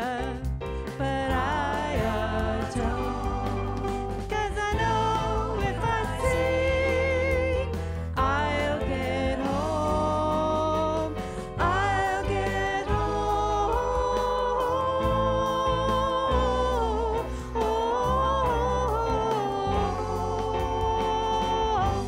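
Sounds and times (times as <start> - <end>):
bass guitar: 0.0 - 22.0
drums: 0.0 - 22.0
woman singing: 0.0 - 22.0.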